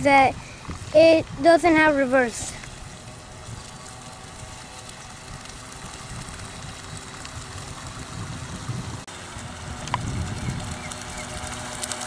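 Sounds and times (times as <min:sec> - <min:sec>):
low outdoor rumble: 0:00.0 - 0:12.0
toy boat motor: 0:00.0 - 0:12.0.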